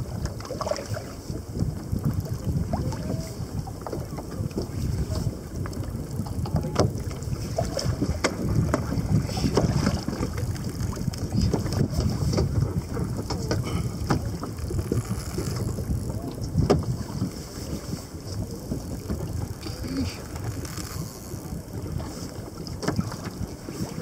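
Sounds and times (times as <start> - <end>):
choppy water against kayak hull: 0.0 - 24.0
wind buffeting microphone: 0.0 - 24.0.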